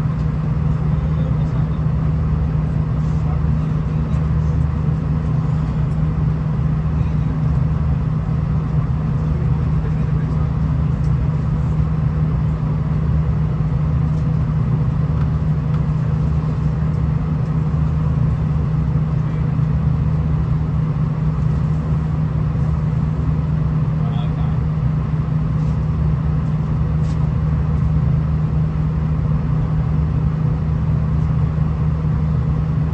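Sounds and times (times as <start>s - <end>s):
diesel railcar droning: 0.0s - 32.9s.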